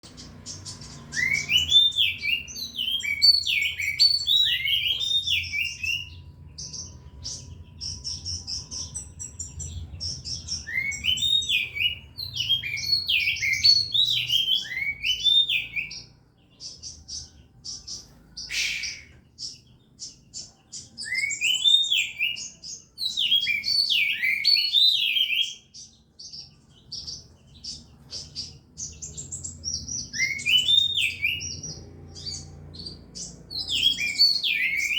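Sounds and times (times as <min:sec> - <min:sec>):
bird chirps: 0:00.0 - 0:34.9
songbird whistling: 0:00.0 - 0:34.9.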